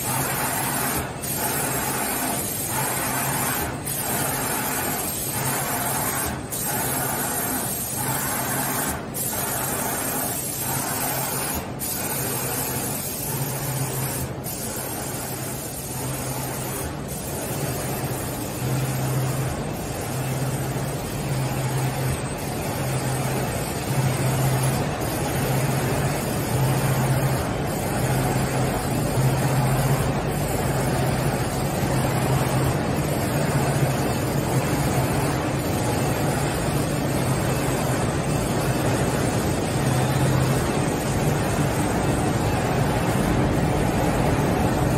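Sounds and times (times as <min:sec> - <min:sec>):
production line machinery running: 0:00.0 - 0:44.9.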